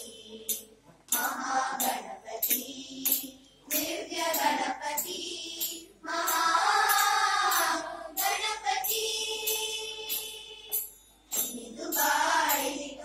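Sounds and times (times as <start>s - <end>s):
girls singing together: 0.0s - 13.0s
percussion strokes: 0.0s - 13.0s.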